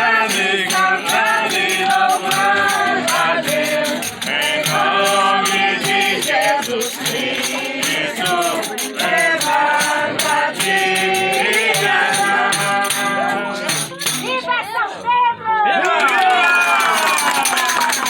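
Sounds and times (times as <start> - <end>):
voices singing together: 0.0 - 14.5
shaker beat: 0.0 - 14.6, 16.7 - 18.0.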